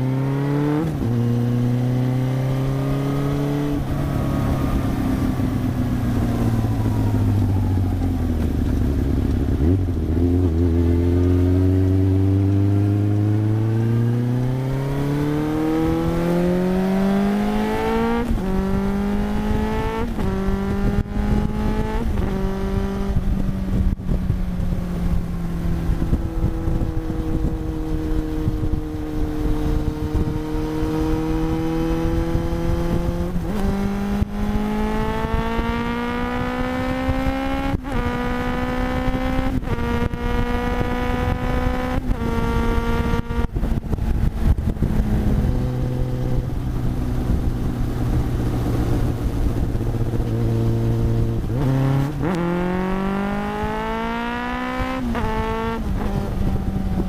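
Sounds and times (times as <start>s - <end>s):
motorcycle exhaust accelerating: 0.0s - 57.0s.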